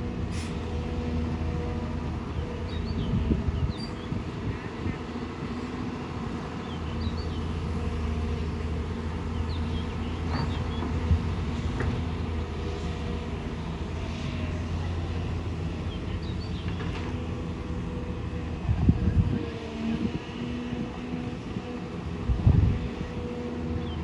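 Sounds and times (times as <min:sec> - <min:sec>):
excavator diesel engine drone: 0:00.0 - 0:24.0.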